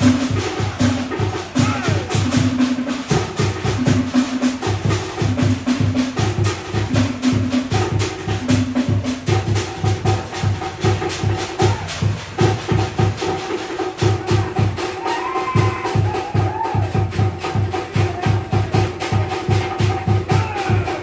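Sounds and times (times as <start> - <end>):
percussion music with fast drum beat: 0.0 - 21.0.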